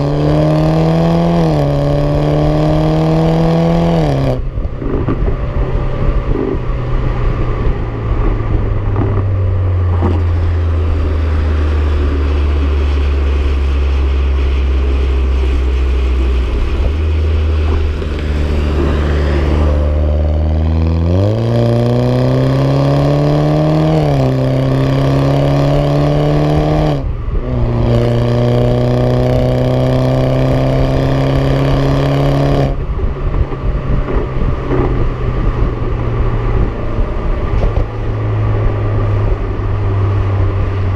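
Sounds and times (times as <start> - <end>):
car engine revving through exhaust: 0.0 - 40.9.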